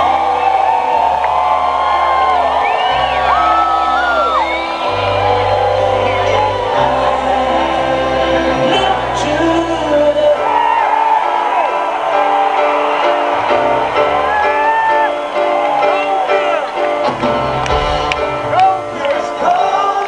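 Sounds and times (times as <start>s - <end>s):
loud live rock music: 0.0s - 20.0s
people whooping: 0.0s - 20.0s.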